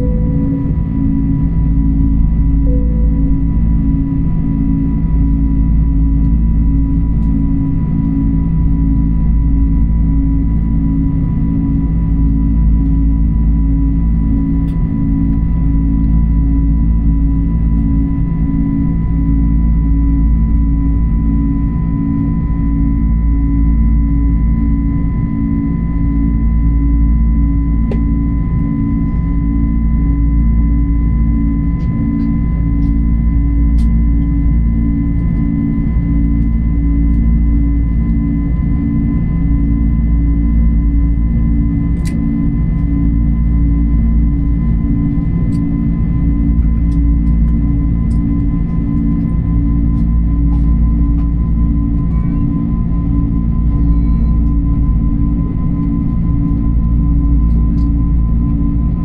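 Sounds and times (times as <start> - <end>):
jet engine cabin drone: 0.0 - 59.0
pulsing beating hum: 0.0 - 59.0.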